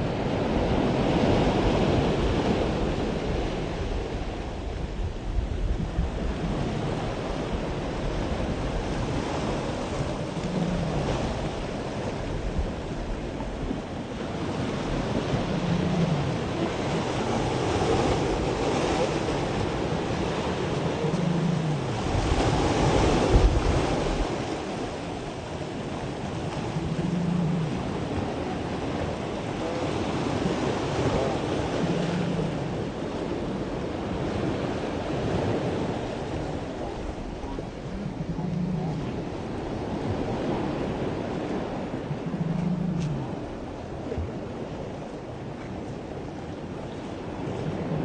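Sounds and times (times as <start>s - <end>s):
surf washing onto shore: 0.0s - 48.0s
wind buffeting microphone: 0.0s - 48.0s.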